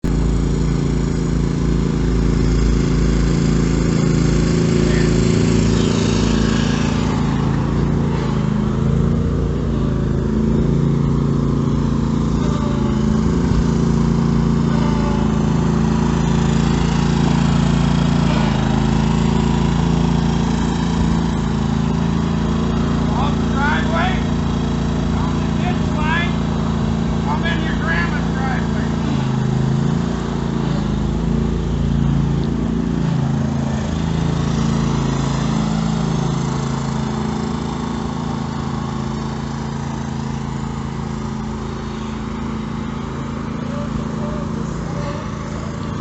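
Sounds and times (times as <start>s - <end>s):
small tractor engine running: 0.0s - 46.0s.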